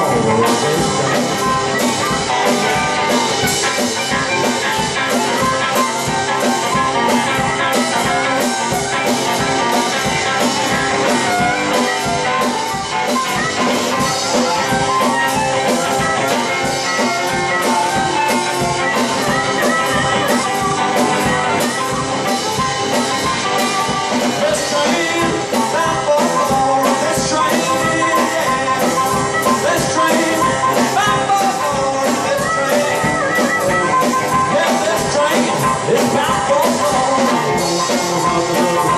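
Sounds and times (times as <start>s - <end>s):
amplified harmonica: 0.0s - 38.9s
drum kit steady beat: 0.0s - 38.9s
electric guitar: 0.0s - 38.9s.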